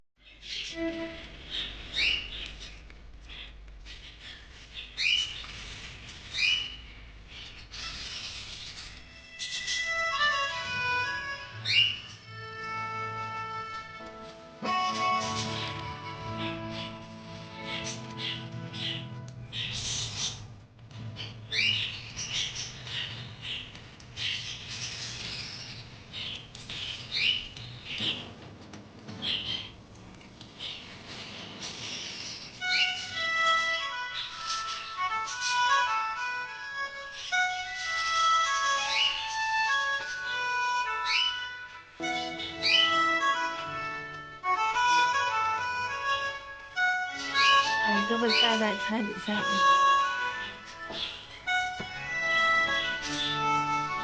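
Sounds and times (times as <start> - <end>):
budgerigar chirping: 1.5 - 5.4, 6.3 - 13.6, 14.7 - 20.5, 21.1 - 28.2, 30.6 - 54.0.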